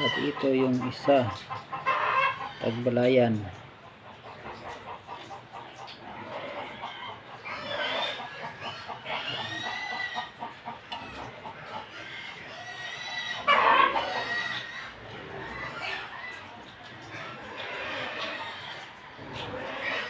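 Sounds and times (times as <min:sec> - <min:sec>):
chicken drawn-out calls: 0:00.0 - 0:20.0
chickens clucking: 0:00.0 - 0:20.0.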